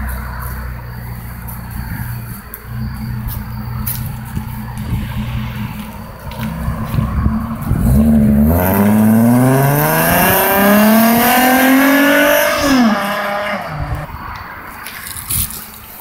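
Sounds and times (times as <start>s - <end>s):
car engine accelerating hard: 0.0s - 14.1s.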